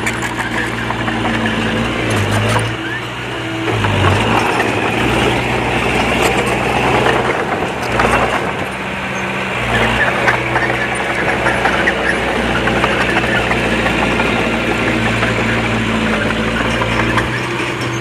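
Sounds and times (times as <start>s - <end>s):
bulldozer diesel engine under load: 0.0s - 18.0s
soil and debris crunching: 0.0s - 18.0s.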